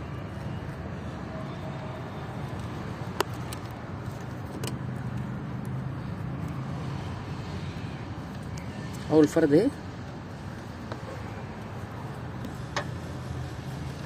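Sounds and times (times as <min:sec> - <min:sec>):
vehicle motor humming: 0:00.0 - 0:14.0.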